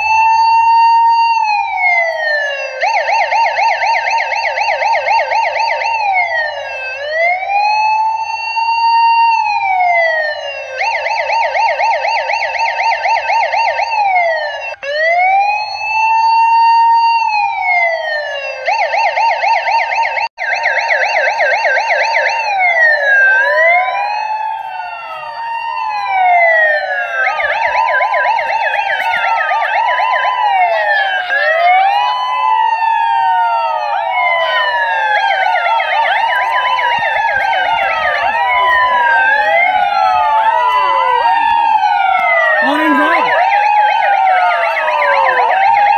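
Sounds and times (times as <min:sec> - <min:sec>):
electronic siren wailing and yelping: 0:00.0 - 0:45.9.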